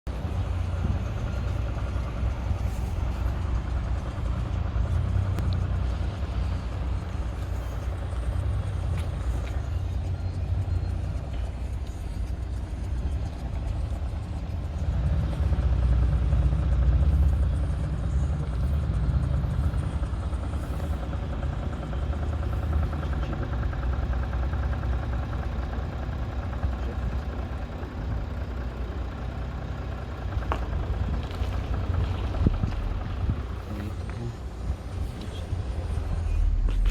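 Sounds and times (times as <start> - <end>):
diesel engine running: 0.0 - 36.9
engine rattling: 0.0 - 36.9.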